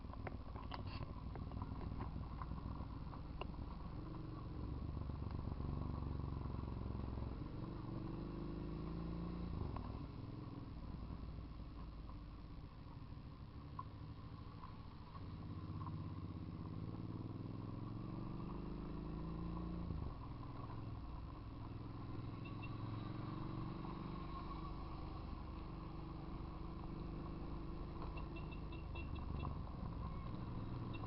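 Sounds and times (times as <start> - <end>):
motorcycle engine accelerating: 1.1 - 10.7, 14.2 - 31.0.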